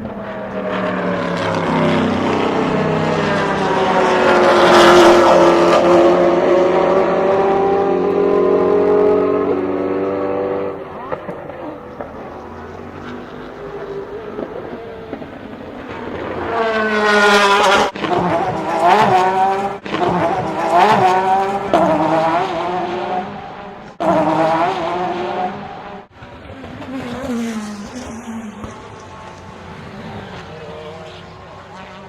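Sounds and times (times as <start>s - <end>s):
race cars accelerating past: 0.0s - 32.0s.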